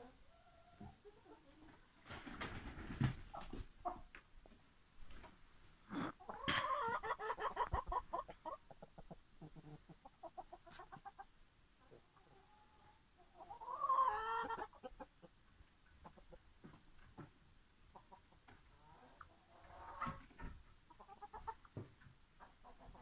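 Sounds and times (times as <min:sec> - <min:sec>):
chickens clucking: 0:00.0 - 0:05.3, 0:05.9 - 0:23.0.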